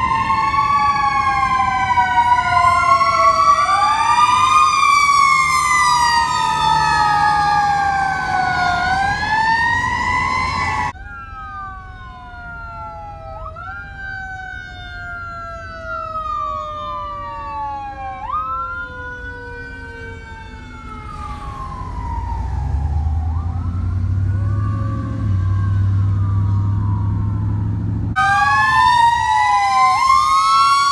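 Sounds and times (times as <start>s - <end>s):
distant fire engine siren: 0.0s - 30.9s
fire truck siren wailing: 0.0s - 30.9s.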